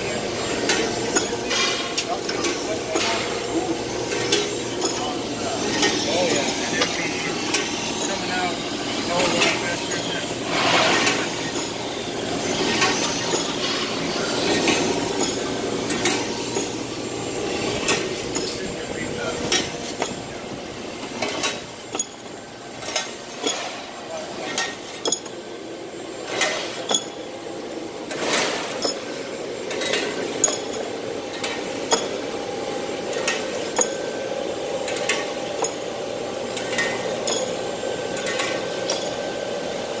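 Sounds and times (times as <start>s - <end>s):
grinding machine hum: 0.0s - 40.0s.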